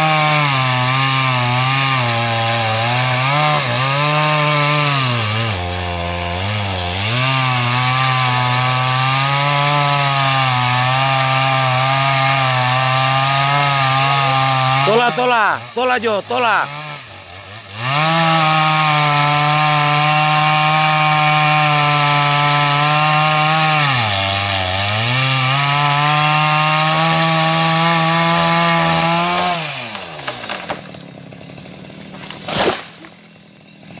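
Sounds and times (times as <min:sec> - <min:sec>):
chainsaw running at high revs: 0:00.0 - 0:34.0.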